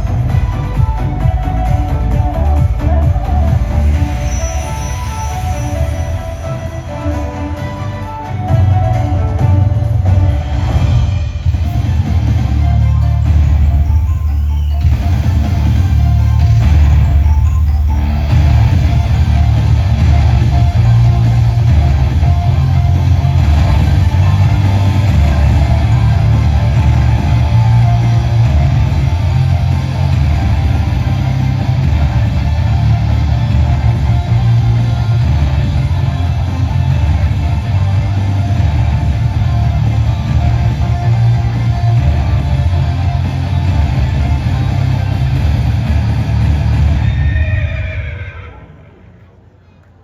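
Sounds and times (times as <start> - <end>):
loud rock music: 0.0 - 48.0.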